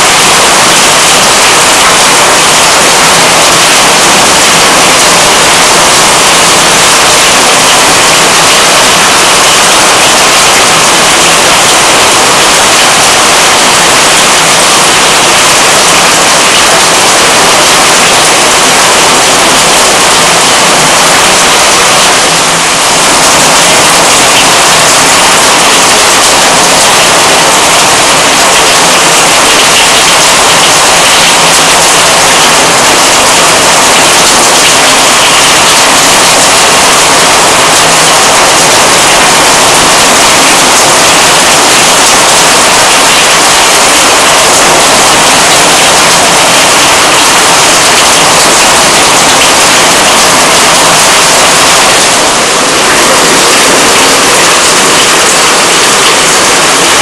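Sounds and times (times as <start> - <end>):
heavy rain pouring on street: 0.0 - 57.0.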